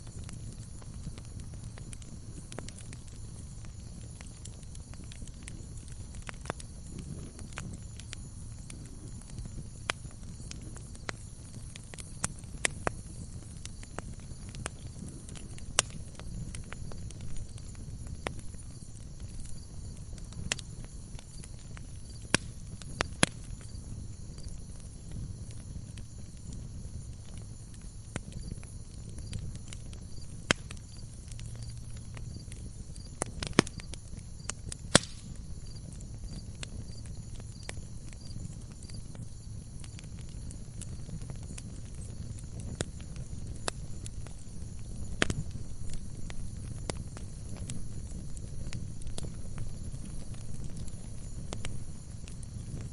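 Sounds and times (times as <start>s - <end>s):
fire crackling and popping: 0.0s - 52.9s
low rumble of flames: 0.0s - 52.9s.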